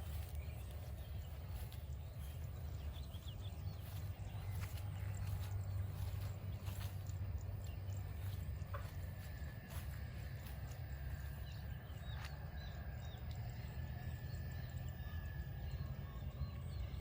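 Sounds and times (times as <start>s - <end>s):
faint bird chirps: 0.0s - 17.0s
low rumble: 0.0s - 17.0s.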